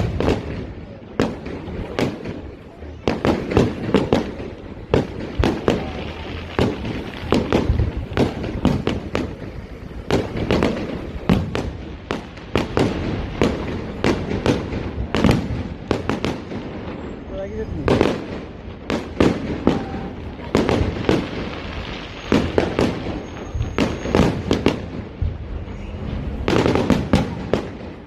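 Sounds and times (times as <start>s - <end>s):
continuous low rumble: 0.0s - 28.0s
fireworks bangs: 0.0s - 28.0s.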